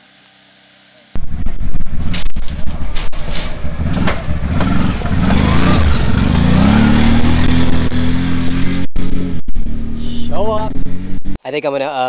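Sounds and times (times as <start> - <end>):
quad engine revving: 1.2 - 11.4.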